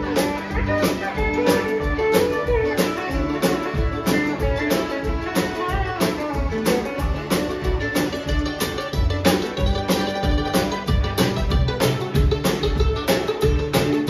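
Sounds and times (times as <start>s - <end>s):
country band playing live: 0.0s - 14.0s.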